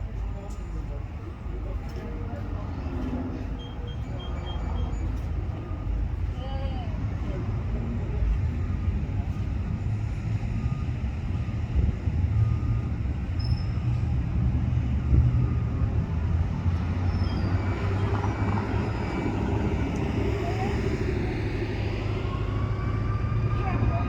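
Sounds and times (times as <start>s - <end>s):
vehicle traffic rumble: 0.0s - 24.0s.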